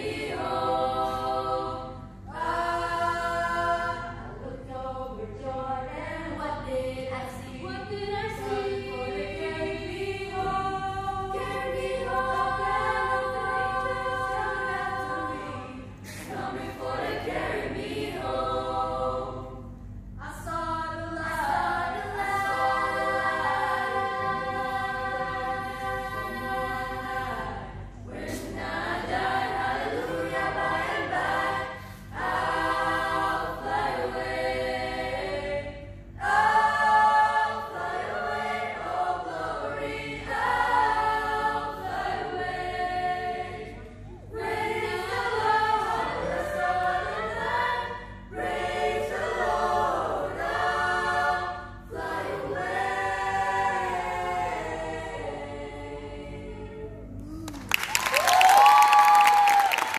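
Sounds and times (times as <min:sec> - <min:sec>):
choir singing a cappella: 0:00.0 - 0:57.4.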